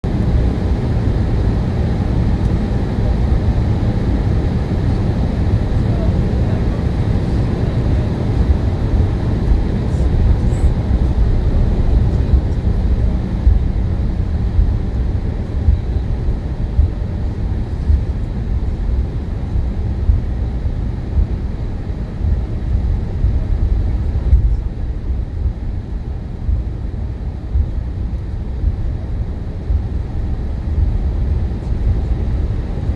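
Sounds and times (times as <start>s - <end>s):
airliner cabin rumble: 0.0s - 32.9s.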